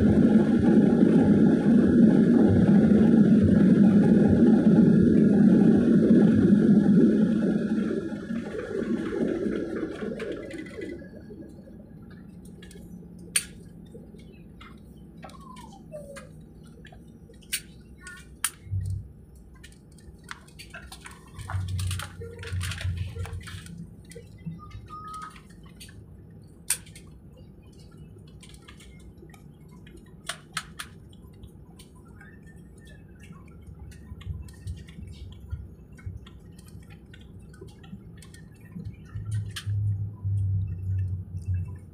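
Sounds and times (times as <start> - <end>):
airliner cabin hum: 0.0 - 41.9.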